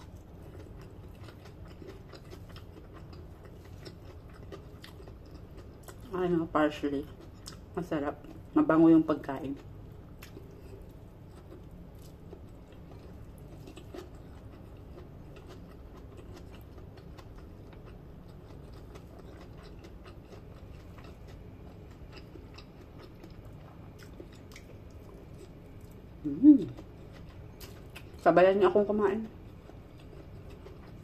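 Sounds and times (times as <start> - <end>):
person chewing food: 0.0 - 6.1, 7.0 - 8.5, 9.6 - 28.2, 29.3 - 31.0
low background hum: 0.0 - 31.0.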